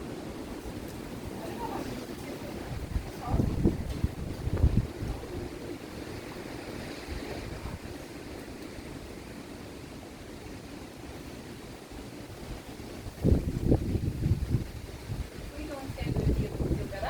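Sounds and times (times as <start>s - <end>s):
gusts buffeting microphone: 0.0s - 17.0s
wind blowing: 0.0s - 17.0s.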